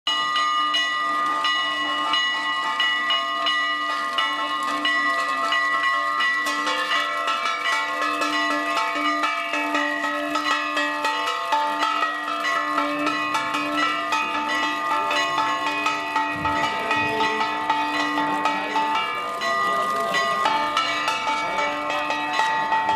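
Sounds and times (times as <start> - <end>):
bells ringing: 0.1 - 22.9.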